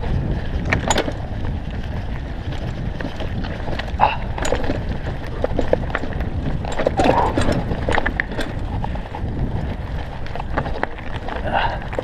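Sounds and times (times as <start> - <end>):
bike clattering over stony track: 0.0 - 12.0
wind rumble on microphone: 0.0 - 12.0.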